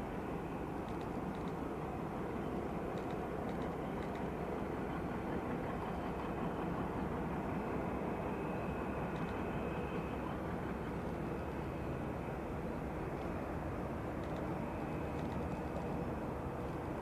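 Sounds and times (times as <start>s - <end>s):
faint high jet whine: 0.0s - 17.0s.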